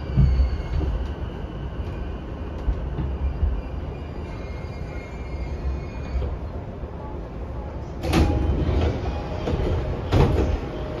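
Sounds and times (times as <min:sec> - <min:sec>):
train interior low rumble: 0:00.0 - 0:11.0.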